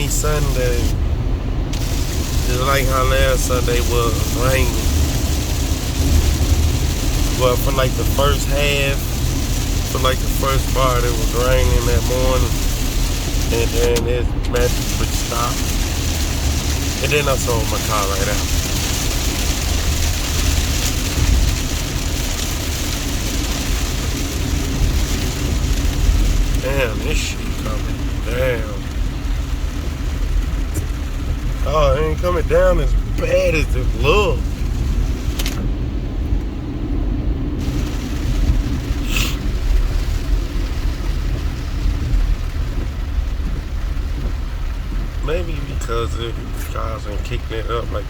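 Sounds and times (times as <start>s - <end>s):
low road rumble: 0.0s - 48.0s
rain and wet tyres hissing: 0.0s - 48.0s.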